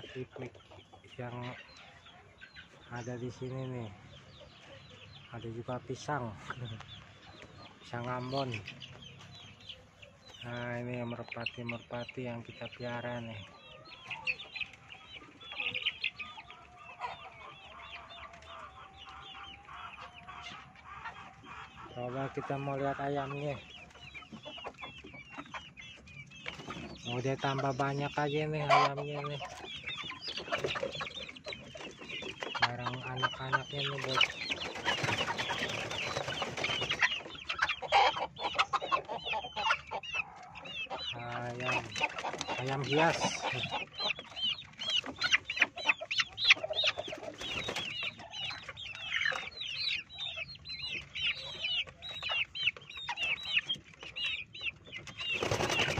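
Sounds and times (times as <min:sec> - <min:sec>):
chickens clucking: 0:00.0 - 0:55.9
chicks cheeping: 0:00.0 - 0:55.9.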